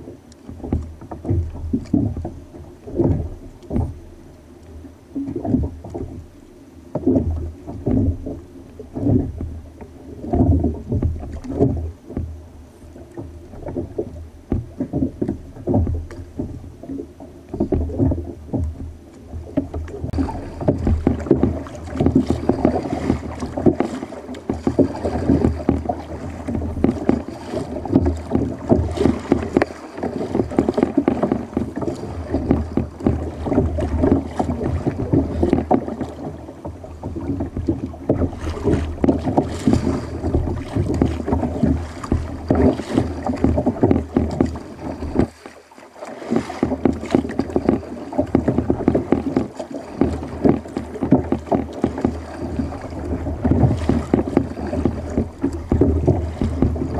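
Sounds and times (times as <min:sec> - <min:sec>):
paddle strokes: 0:00.0 - 0:56.9
water splashing against kayak hull: 0:00.0 - 0:56.9.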